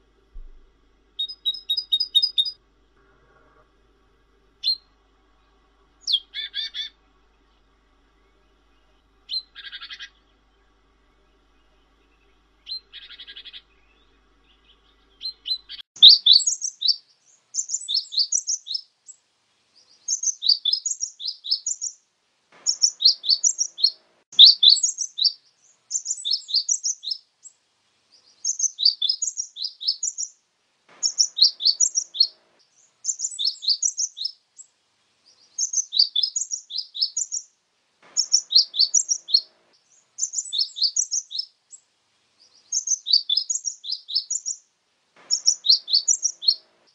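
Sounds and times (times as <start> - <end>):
bird chirping song: 0.0 - 22.0, 22.6 - 46.9.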